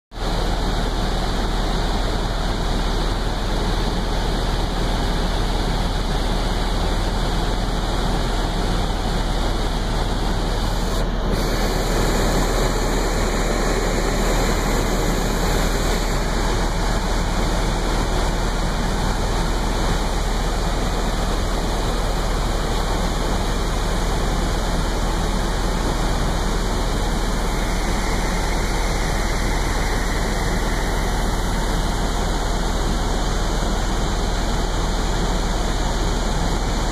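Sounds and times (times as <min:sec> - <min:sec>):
helicopter engine and rotor from cabin: 0:00.1 - 0:36.9.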